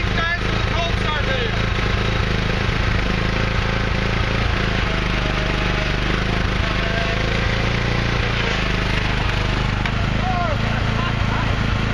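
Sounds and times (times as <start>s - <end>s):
riding mower engine running: 0.0s - 11.9s.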